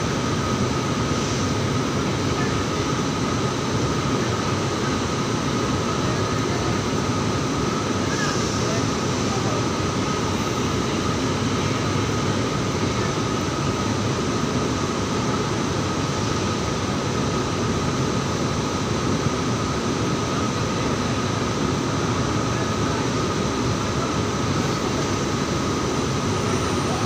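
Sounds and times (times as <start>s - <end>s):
locomotive machinery hum: 0.0s - 27.0s.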